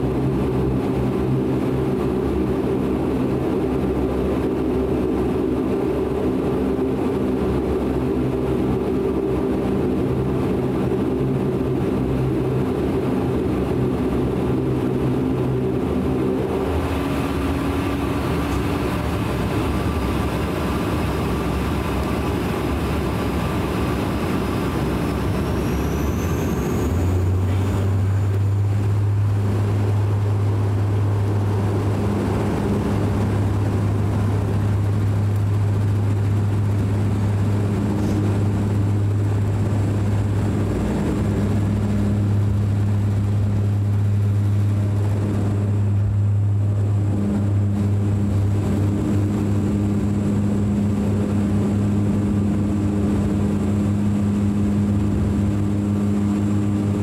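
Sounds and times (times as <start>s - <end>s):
low propeller drone: 0.0s - 57.0s
rush of takeoff roll: 0.0s - 57.0s
turbine whine rising: 7.2s - 57.0s.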